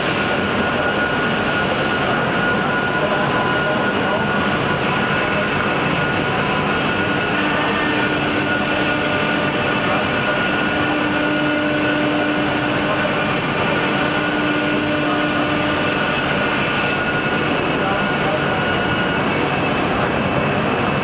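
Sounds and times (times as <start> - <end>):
faint steady whine: 0.0 - 21.0
machining centre running: 0.0 - 21.0.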